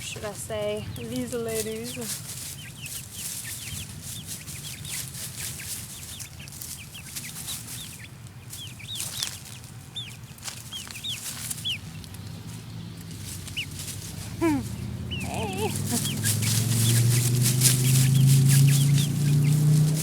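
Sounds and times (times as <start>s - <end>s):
chicks peeping: 0.0s - 20.0s
chicks scratching in dry leaves: 0.0s - 20.0s.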